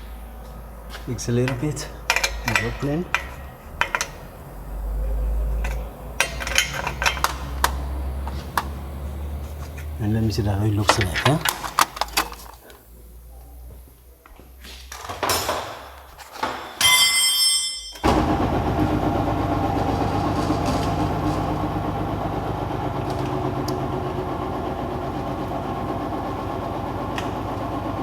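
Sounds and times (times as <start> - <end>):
car engine starting and idling: 0.0 - 13.8, 18.0 - 28.0.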